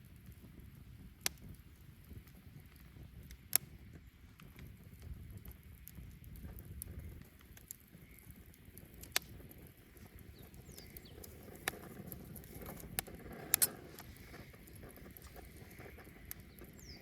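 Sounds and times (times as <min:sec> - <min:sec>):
fire popping: 0:00.0 - 0:17.0
wood bonfire crackling: 0:00.0 - 0:17.0.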